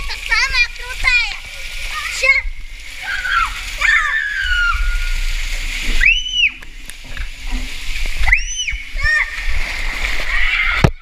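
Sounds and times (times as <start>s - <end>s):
water rushing through slide tube: 0.0s - 11.0s.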